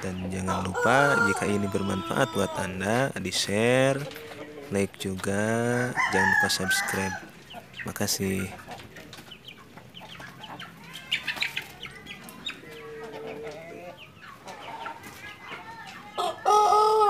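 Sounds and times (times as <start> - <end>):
chickens clucking and calling: 0.0 - 17.0.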